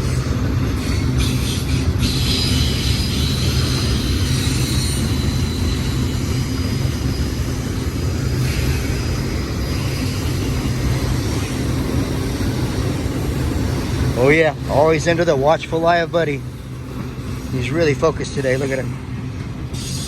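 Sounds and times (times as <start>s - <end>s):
freight train rumbling past: 0.0s - 20.0s
high wheel squeal: 0.0s - 20.0s.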